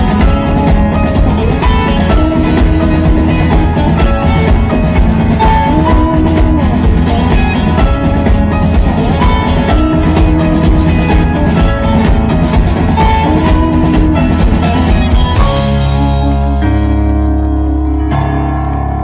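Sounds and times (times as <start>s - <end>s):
drum kit: 0.0s - 18.0s
bass guitar: 0.0s - 19.0s
electric guitars: 0.0s - 19.0s.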